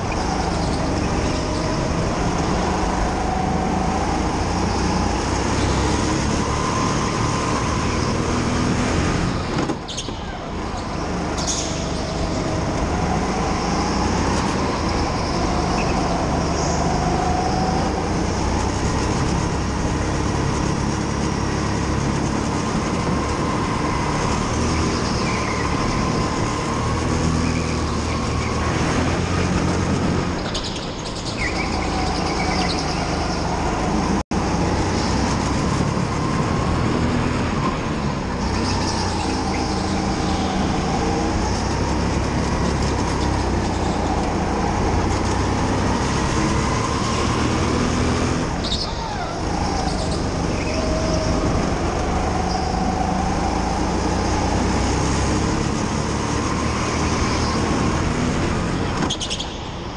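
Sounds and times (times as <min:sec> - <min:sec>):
go-kart engine: 0:00.0 - 0:59.9.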